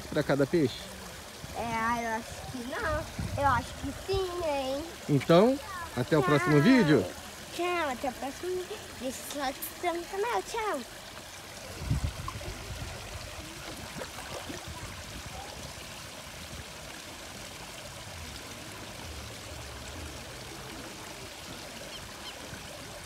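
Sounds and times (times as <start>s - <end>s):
waterfall splashing into pond: 0.0s - 23.0s.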